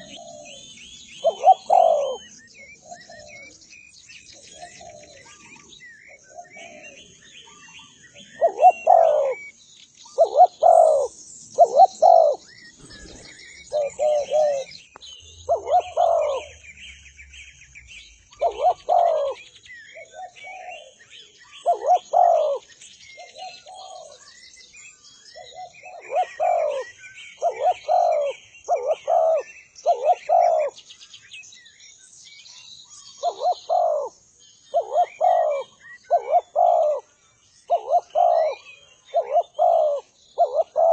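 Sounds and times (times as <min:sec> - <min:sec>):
dove cooing: 0:00.0 - 0:03.6, 0:04.4 - 0:09.5, 0:10.1 - 0:14.8, 0:15.5 - 0:16.6, 0:18.4 - 0:24.2, 0:25.4 - 0:30.8, 0:33.2 - 0:34.1, 0:34.7 - 0:40.9
small birds chirping: 0:00.0 - 0:40.9.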